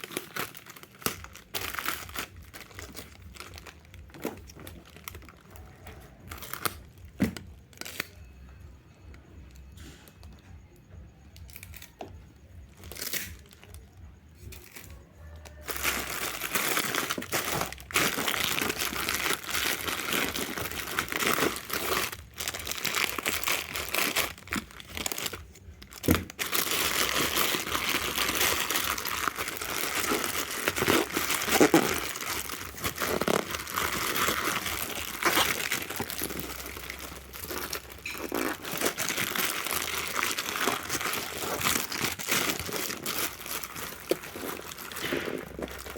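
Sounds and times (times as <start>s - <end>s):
wrapping crinkling and rustling: 0.0s - 45.9s.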